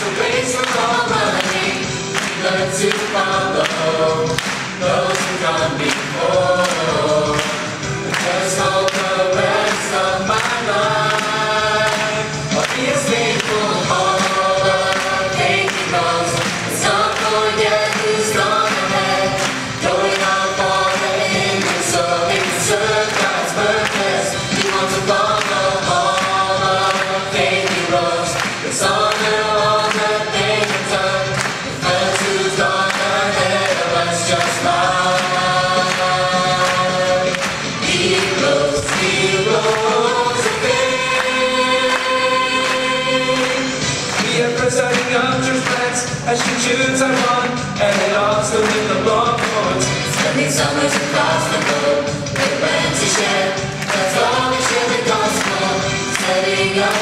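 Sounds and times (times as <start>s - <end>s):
choir singing: 0.0s - 57.0s
musical backing: 0.0s - 57.0s.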